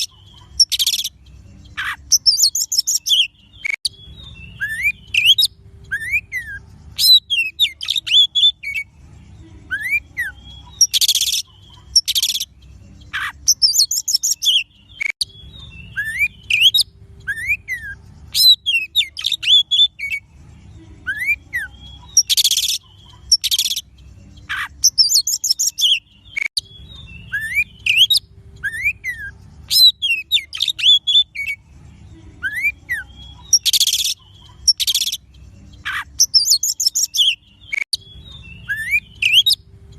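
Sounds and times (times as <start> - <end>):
bird song with whistles and trills: 0.0 - 39.7.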